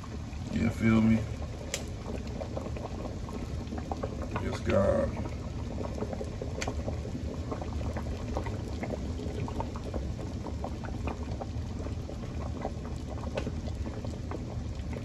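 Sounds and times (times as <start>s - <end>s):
broth boiling in a pot: 0.0s - 15.0s.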